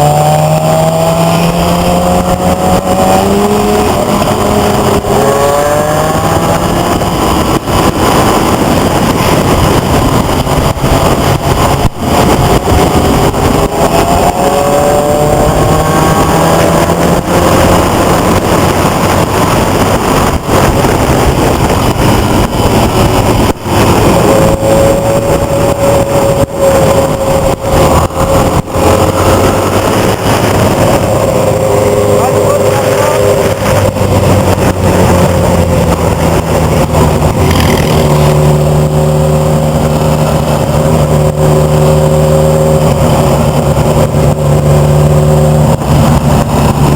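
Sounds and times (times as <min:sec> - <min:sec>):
engines running and revving: 0:00.0 - 0:46.9.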